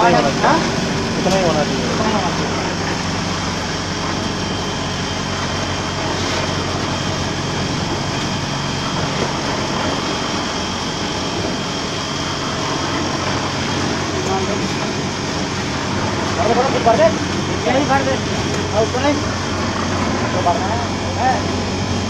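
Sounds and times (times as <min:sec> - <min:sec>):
machine humming with hiss: 0:00.0 - 0:22.0.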